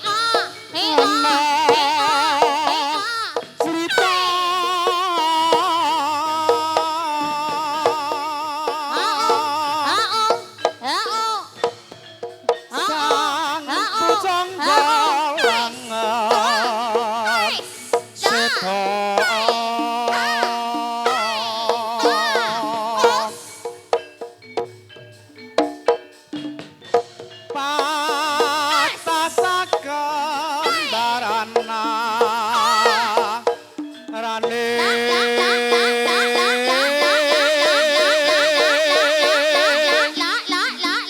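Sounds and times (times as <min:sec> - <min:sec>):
percussion strokes: 0:00.0 - 0:41.0
wavering vibrato melody: 0:00.0 - 0:41.0.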